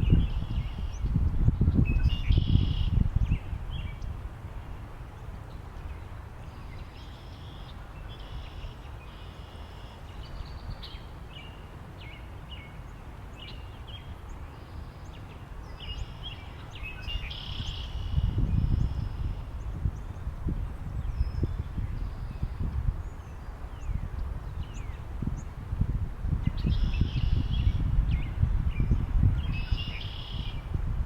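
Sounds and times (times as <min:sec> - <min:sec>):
low rumble of wind: 0:00.0 - 0:31.0.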